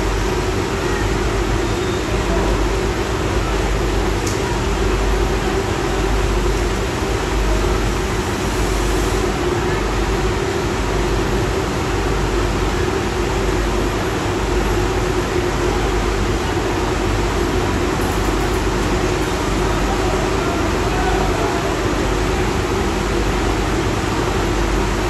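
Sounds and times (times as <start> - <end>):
machinery hum: 0.0 - 25.0.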